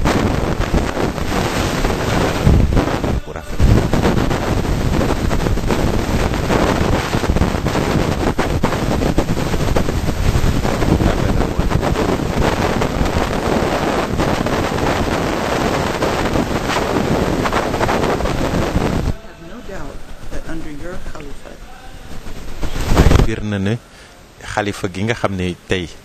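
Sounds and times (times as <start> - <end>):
loud dense crackling: 0.0 - 25.4.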